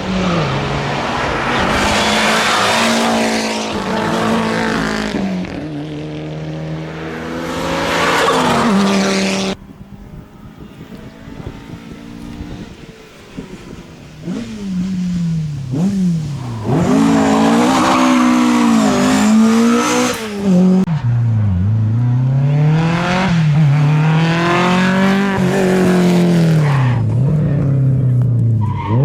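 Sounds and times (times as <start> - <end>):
rally car engine revving: 0.0 - 9.6, 13.4 - 29.0.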